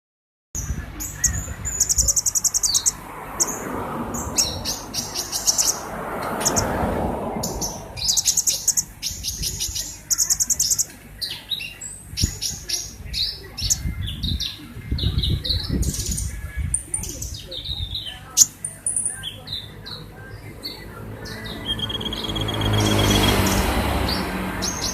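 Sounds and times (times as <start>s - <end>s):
bird twittering trills: 0.6s - 24.9s.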